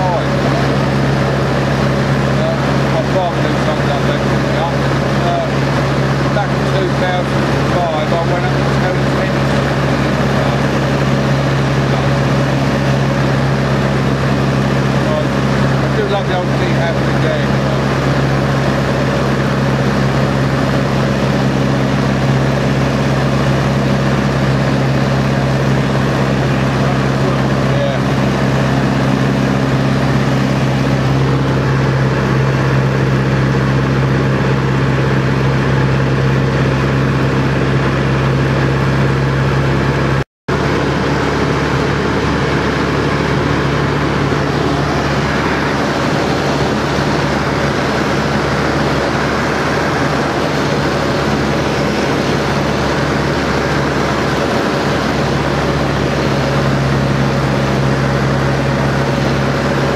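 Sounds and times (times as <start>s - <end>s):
airplane engine drone: 0.0s - 59.9s.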